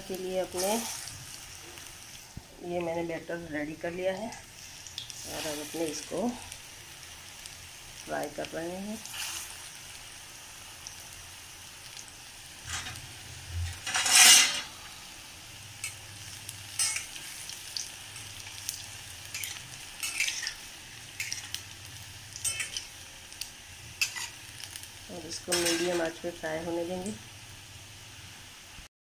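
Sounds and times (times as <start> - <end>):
food deep-frying in oil: 0.0 - 28.9.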